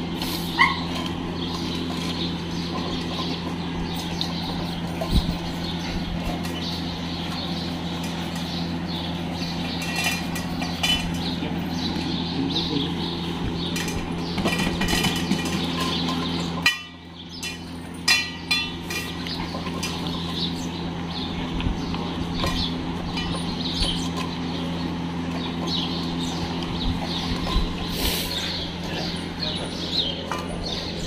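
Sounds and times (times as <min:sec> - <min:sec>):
steady low hum: 0:00.0 - 0:31.0
metal bowls clinking and scraping: 0:00.2 - 0:12.0, 0:13.6 - 0:20.8, 0:22.1 - 0:31.0.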